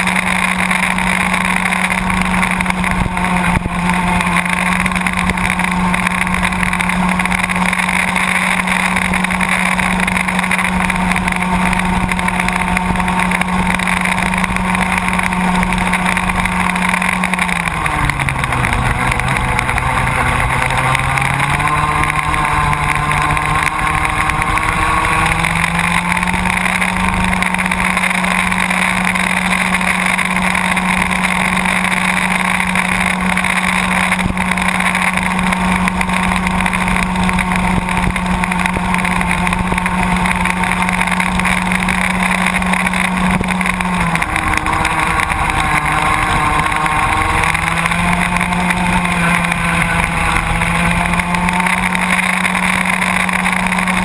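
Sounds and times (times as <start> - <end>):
kart engine high buzz: 0.0 - 54.0.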